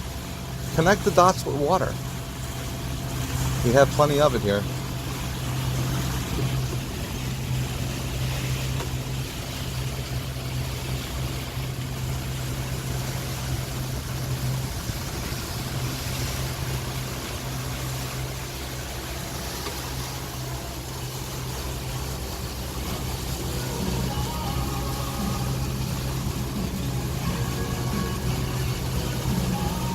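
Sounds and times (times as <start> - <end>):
boat engine humming: 0.0 - 29.9
water hissing alongside hull: 0.0 - 29.9.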